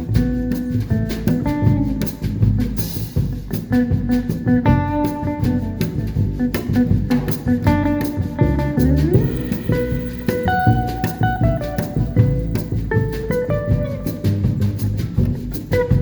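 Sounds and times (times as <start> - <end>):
drum kit: 0.0 - 16.0
plucked guitar: 0.0 - 16.0.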